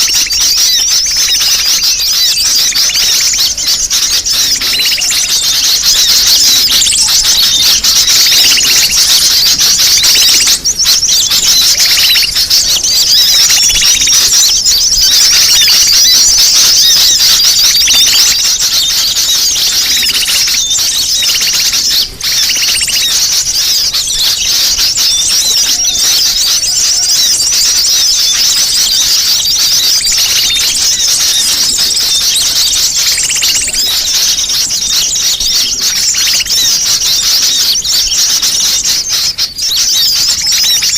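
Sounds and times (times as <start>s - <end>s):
sunbirds twittering: 0.0s - 40.9s.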